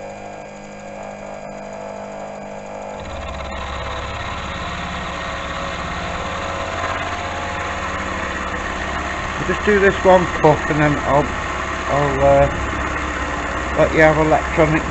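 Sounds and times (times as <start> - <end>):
milling machine running: 0.0 - 14.9.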